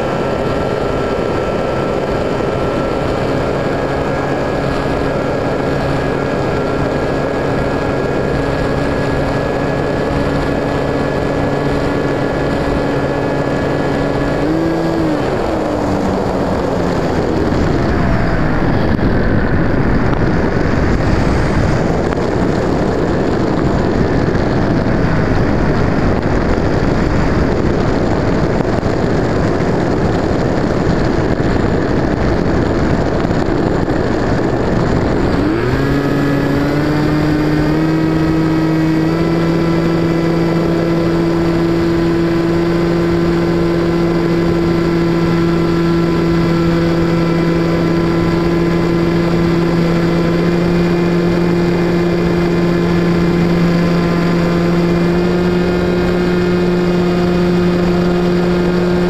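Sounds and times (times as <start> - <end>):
electric motor whine: 0.0 - 27.5, 33.2 - 59.0
wind rushing: 0.0 - 59.0.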